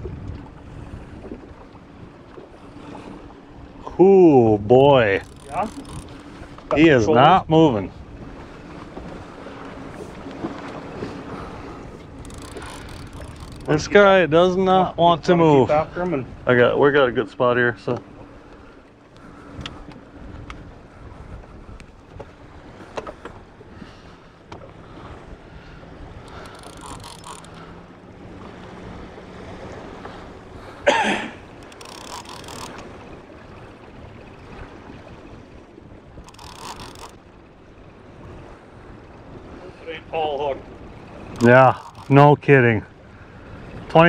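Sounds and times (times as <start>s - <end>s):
waves slapping against boat hull: 0.0s - 44.0s
wind: 0.0s - 44.0s.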